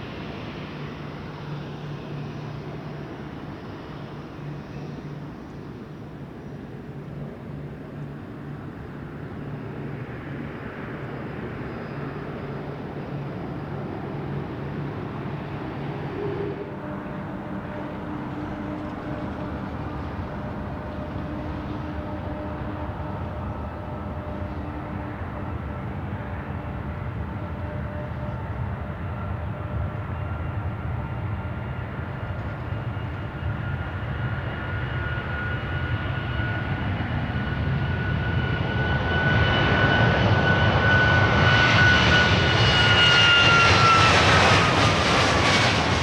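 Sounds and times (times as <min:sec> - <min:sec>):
jet airliner engines running: 0:00.0 - 0:46.0.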